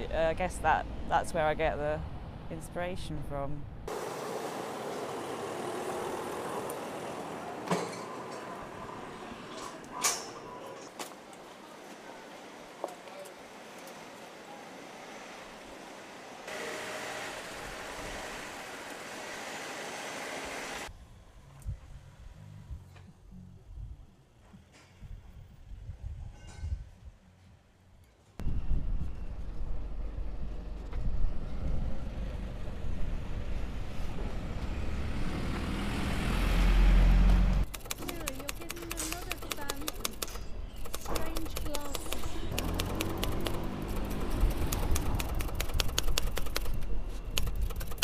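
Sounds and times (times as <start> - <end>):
traffic hum: 0.0 - 24.6, 27.2 - 48.0.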